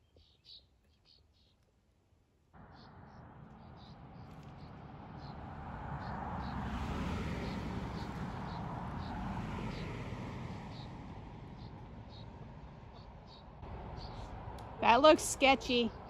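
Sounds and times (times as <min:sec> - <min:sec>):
wind buffeting microphone: 0:02.6 - 0:16.0.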